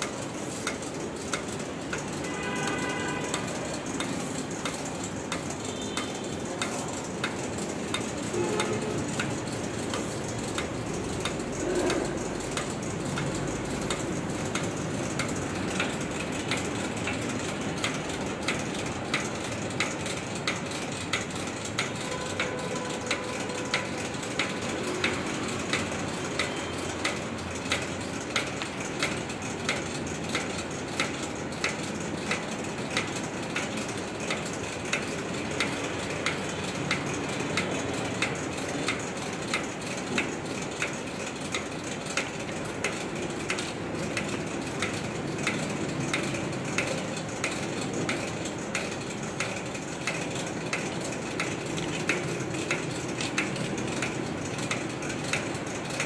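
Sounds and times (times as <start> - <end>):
factory machinery running: 0.0 - 56.0
regular clicking: 0.0 - 56.0.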